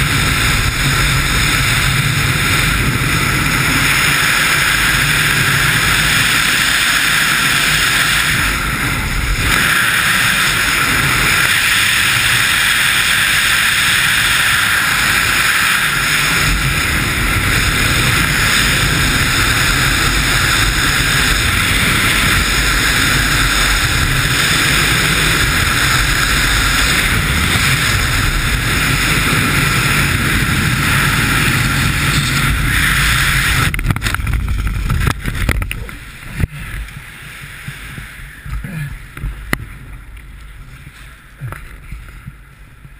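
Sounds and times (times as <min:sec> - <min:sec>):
rushing wind on microphone: 0:00.0 - 0:42.9.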